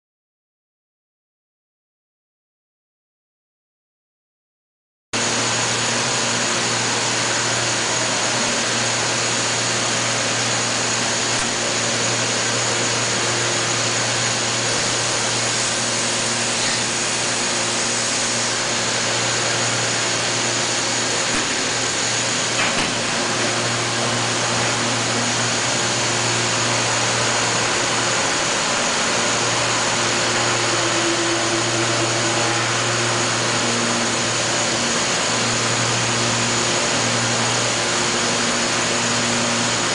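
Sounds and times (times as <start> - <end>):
machining center hum and whirr: 5.2 - 39.9.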